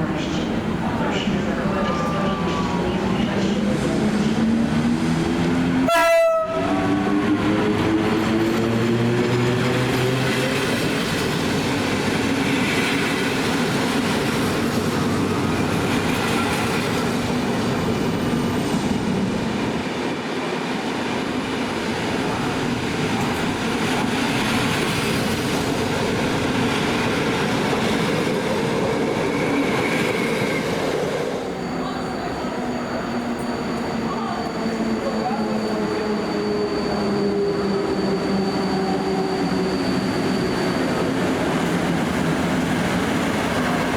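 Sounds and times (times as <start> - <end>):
train whining tones: 0.0 - 43.9.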